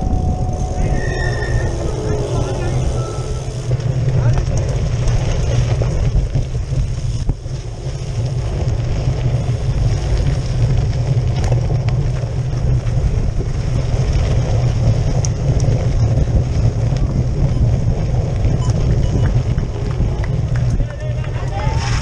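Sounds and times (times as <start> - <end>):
bike tyres rumbling on gravel: 0.0 - 22.0
wind noise on microphone: 0.0 - 22.0.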